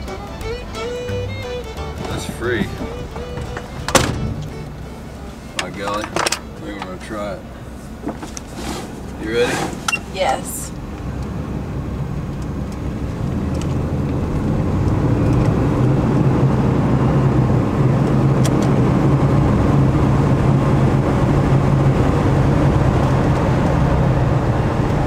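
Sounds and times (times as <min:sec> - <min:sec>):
engine hum: 0:00.0 - 0:25.0
road noise: 0:00.0 - 0:25.0.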